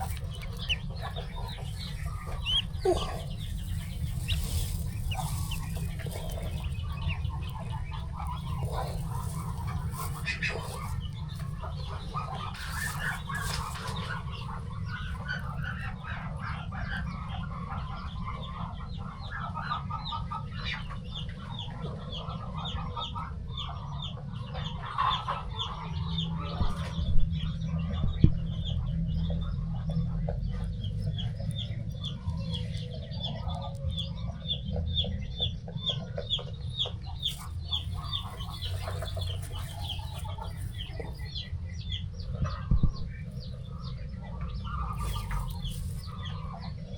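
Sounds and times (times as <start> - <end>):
low rumble: 0.0 - 19.6, 25.4 - 46.9
chicks peeping: 0.0 - 46.9
hens clucking: 0.0 - 46.9.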